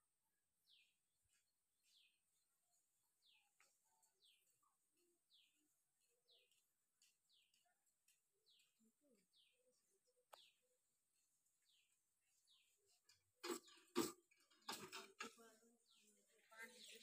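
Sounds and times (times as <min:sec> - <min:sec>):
bird chirping: 0:03.2 - 0:17.0.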